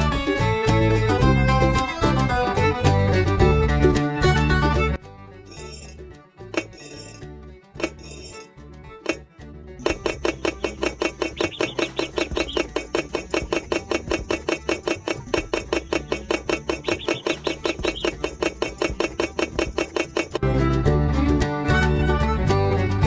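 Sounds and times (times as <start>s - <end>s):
upbeat background music: 0.0s - 23.0s.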